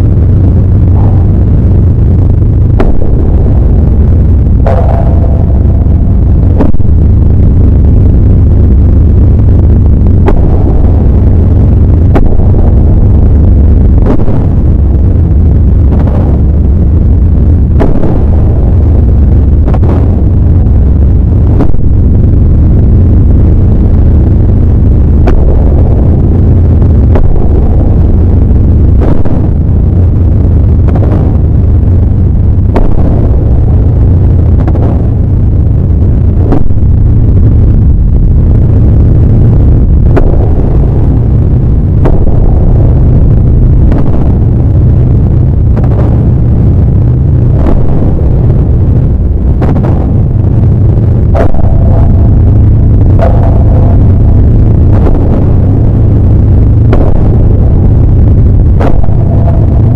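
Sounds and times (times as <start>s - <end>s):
heavy low rumble: 0.0s - 59.9s.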